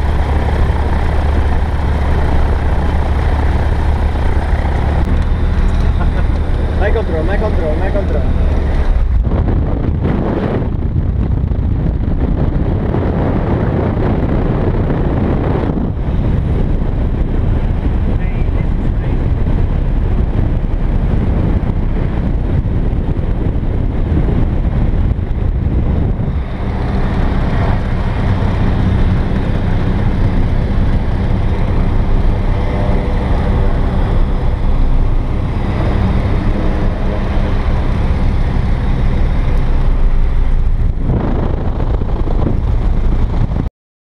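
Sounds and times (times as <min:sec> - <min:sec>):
light aircraft engine and propeller: 0:00.0 - 0:43.7.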